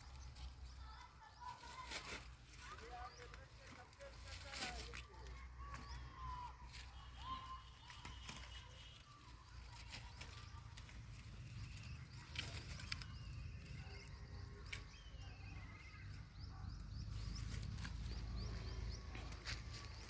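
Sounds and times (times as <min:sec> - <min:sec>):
rustling: 0:00.0 - 0:15.8, 0:17.0 - 0:20.0
small birds chirping: 0:00.0 - 0:20.0.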